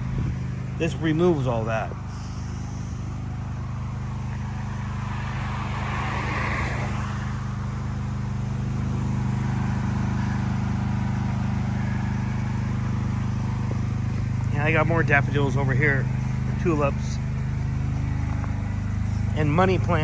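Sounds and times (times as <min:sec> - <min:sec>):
pressure washer engine running: 0:00.0 - 0:20.0.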